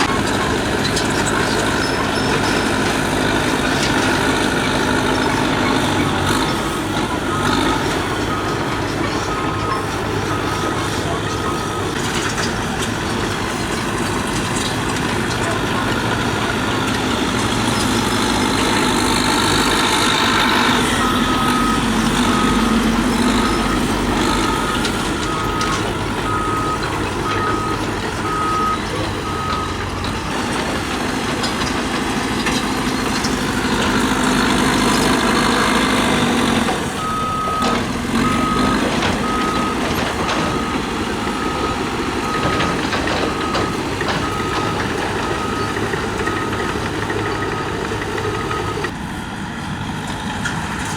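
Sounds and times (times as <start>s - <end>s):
reversing alarm beeping: 0.0s - 12.0s, 14.3s - 49.0s
bulldozer diesel engine: 0.0s - 50.9s.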